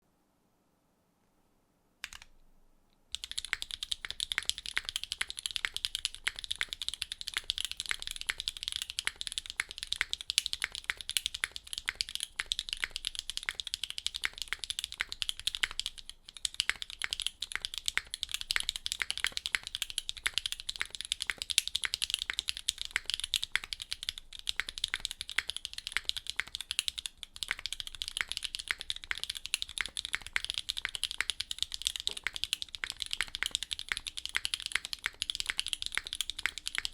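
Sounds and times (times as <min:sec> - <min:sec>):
fast mechanical keyboard typing: 0:02.0 - 0:02.3, 0:03.1 - 0:36.9.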